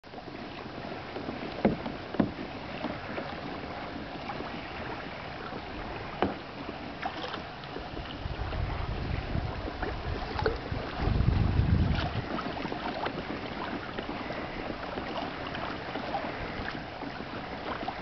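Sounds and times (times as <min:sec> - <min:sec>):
floodwater rushing: 0:01.0 - 0:18.0.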